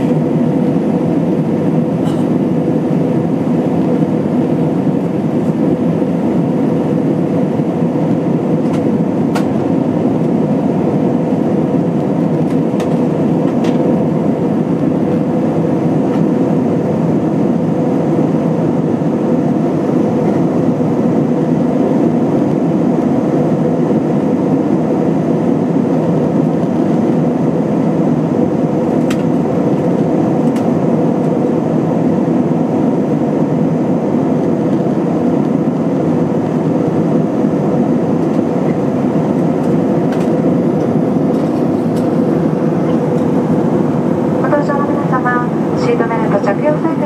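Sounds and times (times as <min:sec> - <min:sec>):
airplane cabin roar: 0:00.0 - 0:47.0
faint hum: 0:00.0 - 0:47.0.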